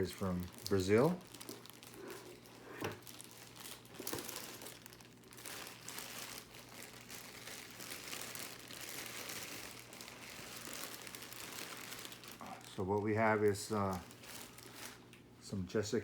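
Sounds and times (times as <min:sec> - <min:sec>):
packaging crinkling and rustling: 0:00.0 - 0:15.3.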